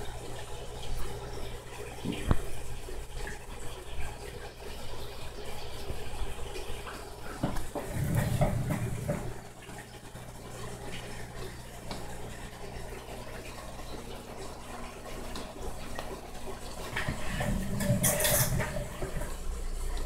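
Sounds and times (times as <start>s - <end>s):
aquarium water bubbling: 0.0s - 20.0s.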